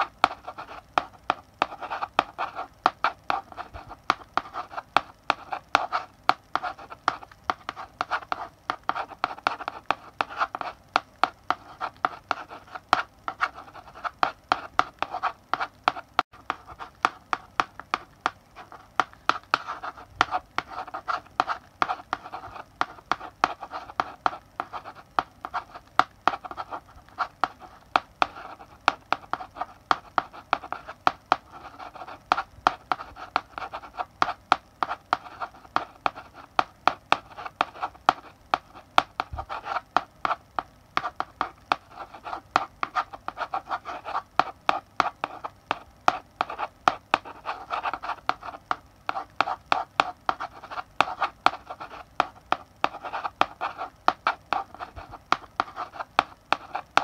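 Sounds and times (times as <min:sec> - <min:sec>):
chalk tapping and scratching on blackboard: 0:00.0 - 0:57.0.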